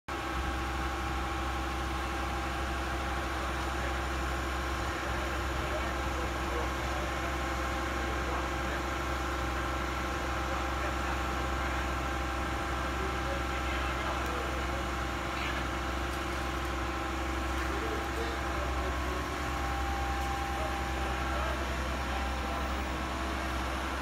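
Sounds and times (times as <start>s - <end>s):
diesel engine droning: 0.1s - 24.0s.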